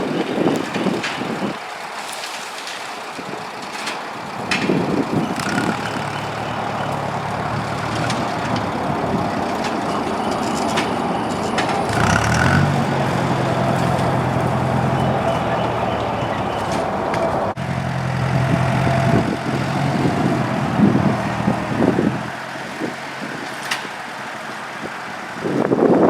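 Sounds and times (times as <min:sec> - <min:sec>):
tractor engine under load: 0:00.0 - 0:26.0.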